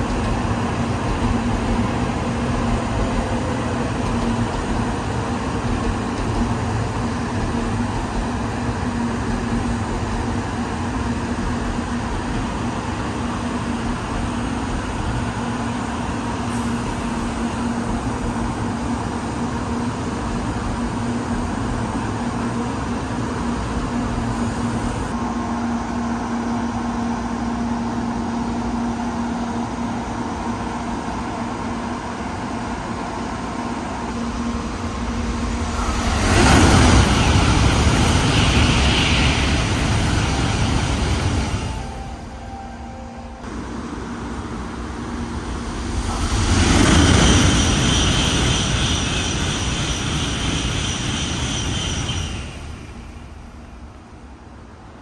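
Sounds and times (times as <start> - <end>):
train electrical hum: 0.0 - 55.0
train rushing past: 0.0 - 55.0.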